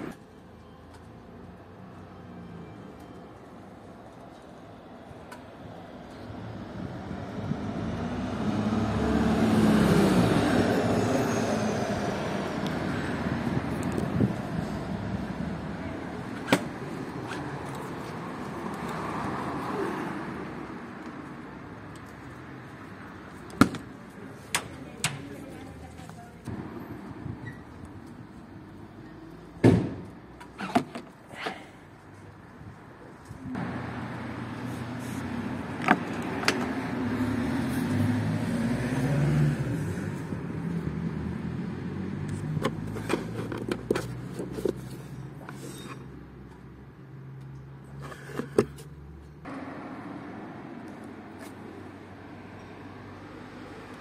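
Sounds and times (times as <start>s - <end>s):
street traffic: 0.0s - 54.0s.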